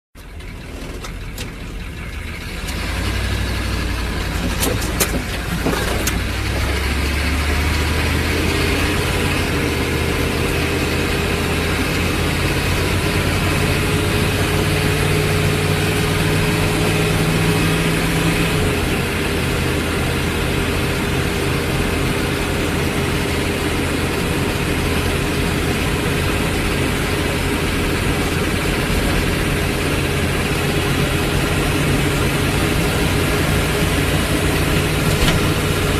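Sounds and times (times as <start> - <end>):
diesel engine idling: 0.2 - 35.9.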